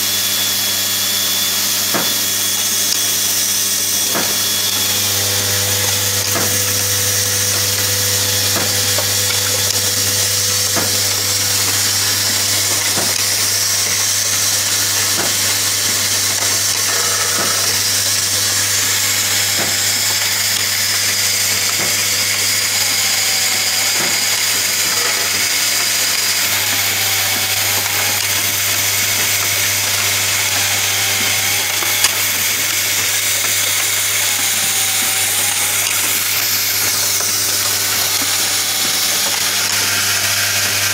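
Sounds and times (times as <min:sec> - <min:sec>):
assembly machine humming: 0:00.0 - 0:40.9.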